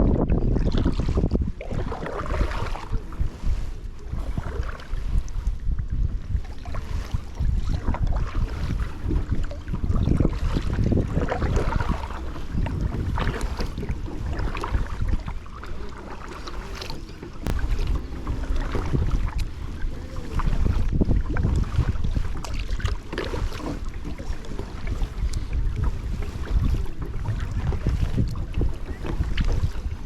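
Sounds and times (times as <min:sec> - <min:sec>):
wind rumbling on microphone: 0:00.0 - 0:30.0
water splashing from paddling: 0:00.2 - 0:30.0.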